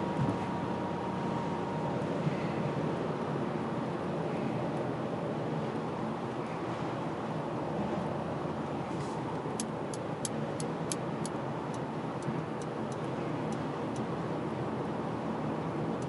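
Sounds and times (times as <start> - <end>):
car cabin engine and tyre drone: 0.0 - 16.0.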